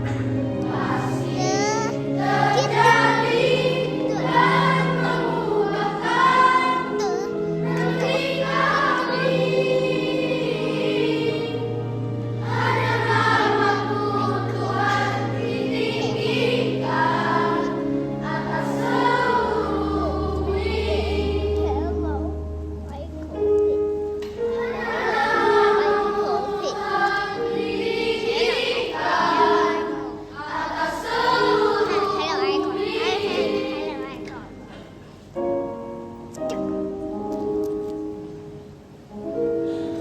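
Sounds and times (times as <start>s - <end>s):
children's choir singing: 0.0s - 22.0s, 24.3s - 35.0s
accompaniment holding low notes: 0.0s - 39.0s.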